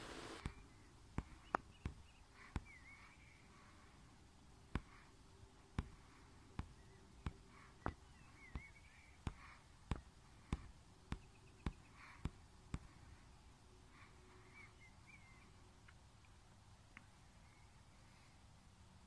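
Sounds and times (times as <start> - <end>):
faint bird chirps: 0.2 - 5.2, 5.8 - 18.4.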